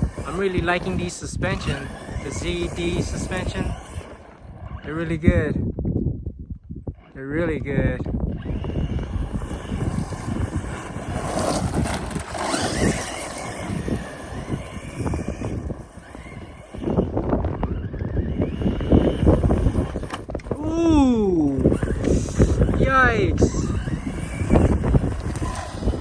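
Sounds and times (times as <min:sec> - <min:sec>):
faint electric motor whine: 0:00.0 - 0:26.0
wind buffeting microphone: 0:00.0 - 0:26.0.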